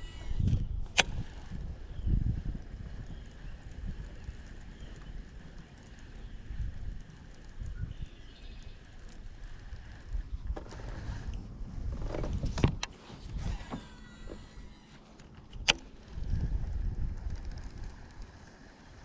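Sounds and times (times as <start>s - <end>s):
wind buffeting microphone: 0.0s - 14.8s, 15.4s - 19.0s
faint whirring: 0.0s - 19.0s
sharp clicks: 0.1s - 10.6s, 14.2s - 19.0s.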